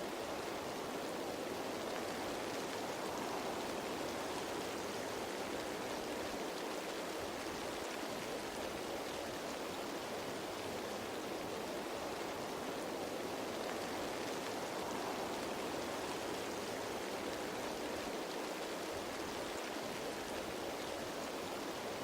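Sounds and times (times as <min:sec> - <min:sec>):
rain falling on leaves: 0:00.0 - 0:22.0.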